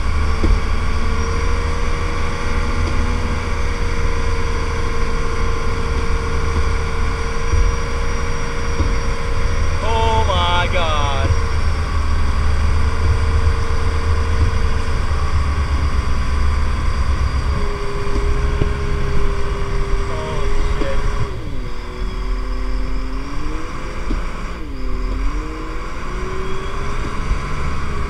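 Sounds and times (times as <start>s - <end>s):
motorboat engine running: 0.0s - 28.0s.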